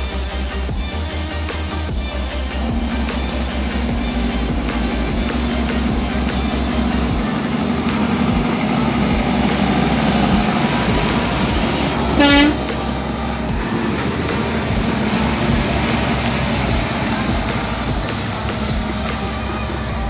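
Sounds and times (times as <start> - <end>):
heavy trucks passing: 0.0 - 20.0
truck horn blast: 0.0 - 20.0.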